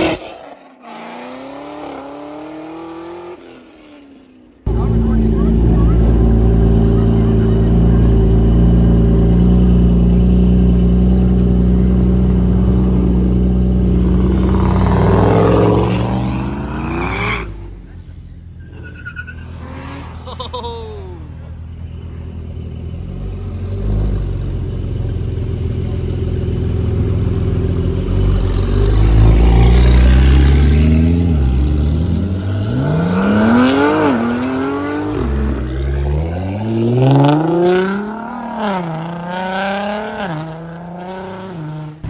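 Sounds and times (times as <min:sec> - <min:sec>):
car engine revving: 0:04.7 - 0:18.0, 0:21.4 - 0:42.0.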